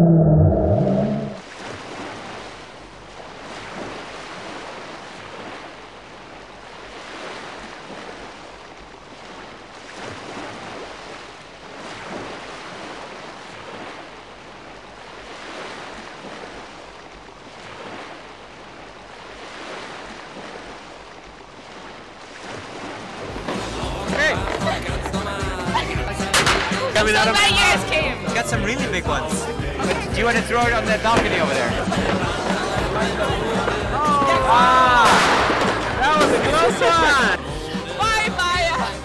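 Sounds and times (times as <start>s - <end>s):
surf washing onto beach: 6.7s - 39.0s.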